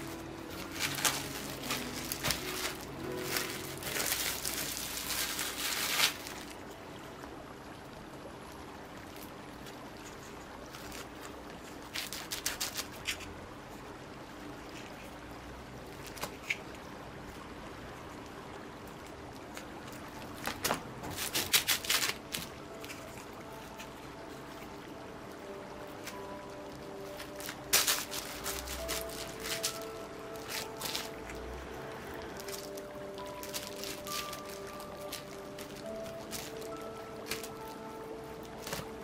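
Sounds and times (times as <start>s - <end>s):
cling film crinkling: 0.0s - 6.8s, 9.0s - 13.3s, 15.9s - 16.8s, 19.5s - 39.0s.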